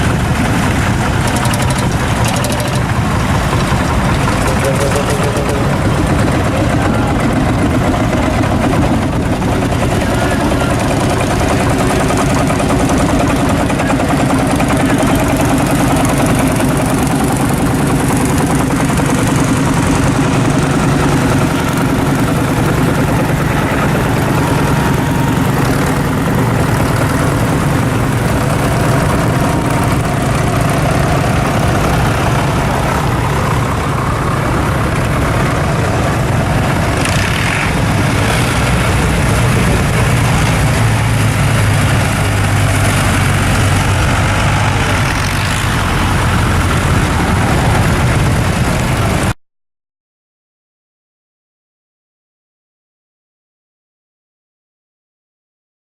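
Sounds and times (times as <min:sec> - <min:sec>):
tractor engine running: 0:00.0 - 0:49.3.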